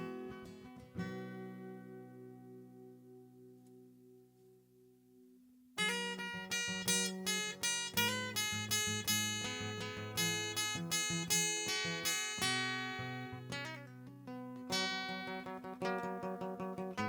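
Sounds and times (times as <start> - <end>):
acoustic guitar plucking: 0.0 - 3.8, 5.8 - 17.0.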